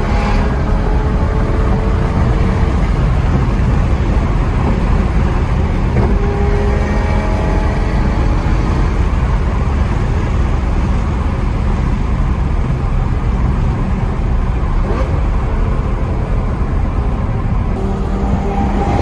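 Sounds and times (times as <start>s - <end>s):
car engine cruising: 0.0s - 19.0s
road noise: 0.0s - 19.0s.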